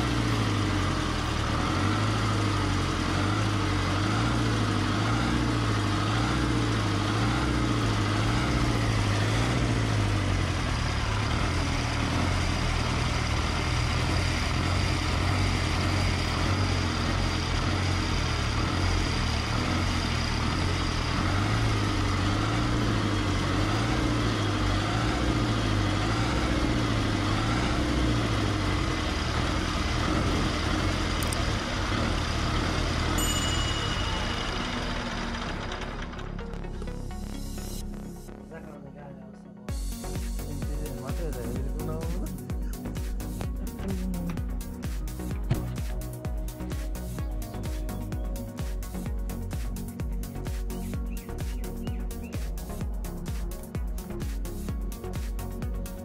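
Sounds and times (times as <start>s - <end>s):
tractor diesel engine idling: 0.0s - 38.7s, 39.7s - 56.0s.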